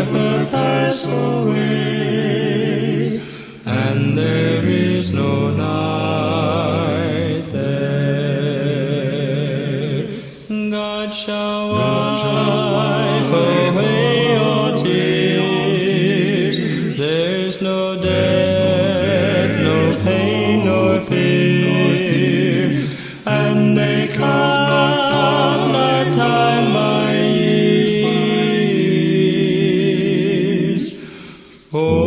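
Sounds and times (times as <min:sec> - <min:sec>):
a cappella quartet singing: 0:00.0 - 0:32.0.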